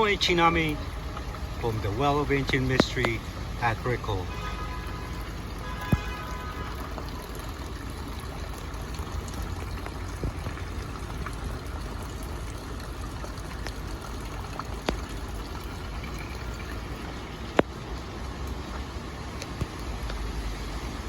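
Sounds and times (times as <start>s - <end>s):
water trickling: 0.0s - 21.0s.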